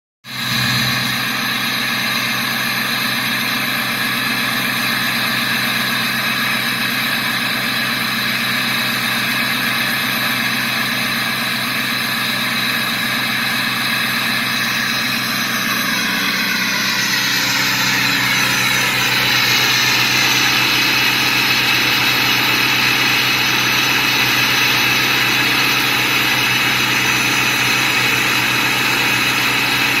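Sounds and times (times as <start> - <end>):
engine idling: 0.2 - 30.0
turbocharger whistling: 0.3 - 30.0.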